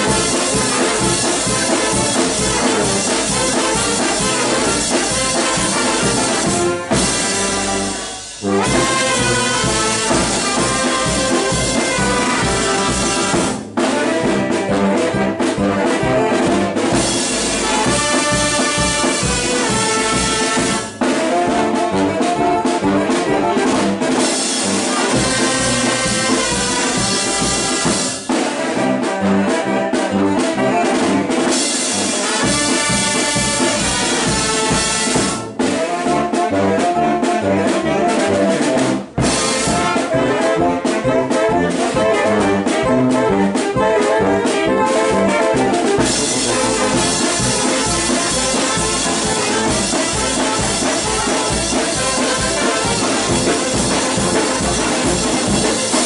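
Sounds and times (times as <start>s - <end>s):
bass drum: 0.0s - 28.3s, 30.1s - 56.0s
brass band playing lively tune: 0.0s - 56.0s
snare drum: 0.0s - 56.0s.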